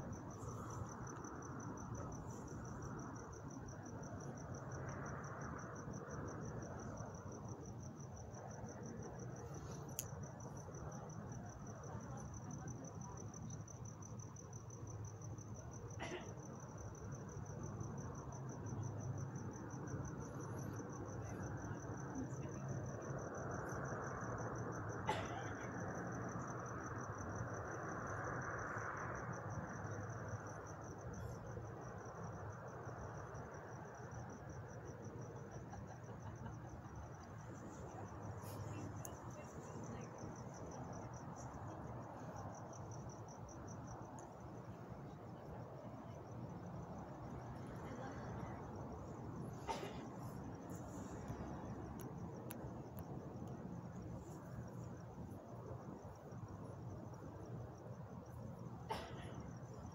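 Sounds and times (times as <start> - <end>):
cricket trilling: 0.0 - 59.9.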